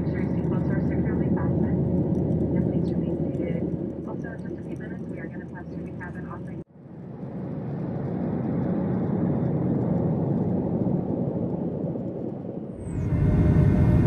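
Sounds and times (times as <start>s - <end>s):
airliner cabin engine noise: 0.0s - 14.0s
deep rumble: 0.0s - 14.0s.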